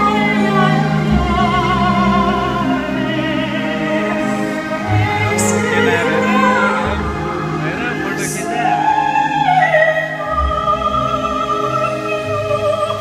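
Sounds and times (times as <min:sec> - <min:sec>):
operatic singing: 0:00.0 - 0:13.0
orchestra playing: 0:00.0 - 0:13.0.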